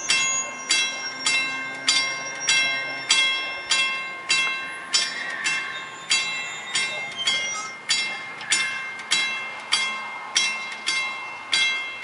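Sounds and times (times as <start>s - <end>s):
railway warning bell striking: 0.0s - 12.0s.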